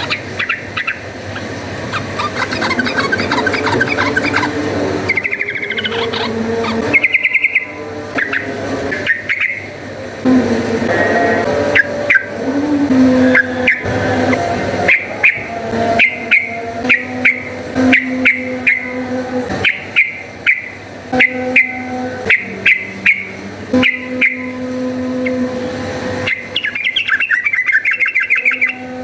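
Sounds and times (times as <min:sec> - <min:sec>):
bulbul calling: 0:00.0 - 0:09.7, 0:13.3 - 0:19.0, 0:19.6 - 0:25.4, 0:26.2 - 0:29.0.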